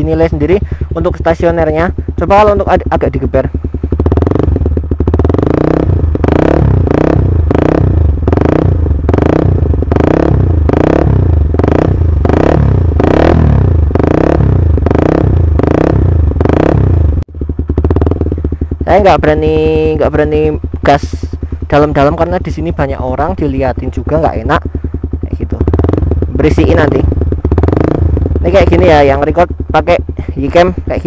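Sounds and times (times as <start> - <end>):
motorcycle engine revving in blips: 0.0 - 31.0.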